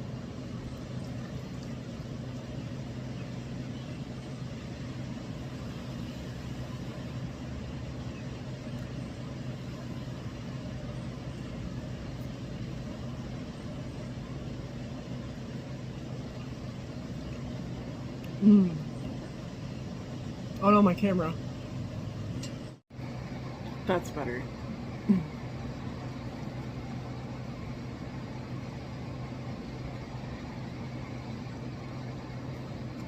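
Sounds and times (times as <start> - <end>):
low hum: 0.0 - 33.0
road traffic passing: 0.0 - 33.0.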